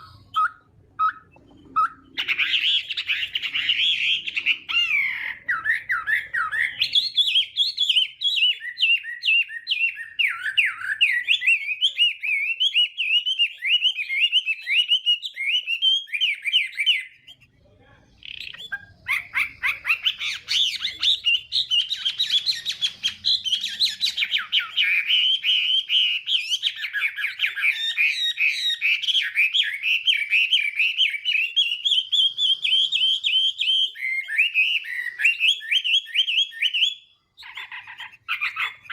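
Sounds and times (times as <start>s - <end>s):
songbird whistling phrases: 0.0s - 38.9s.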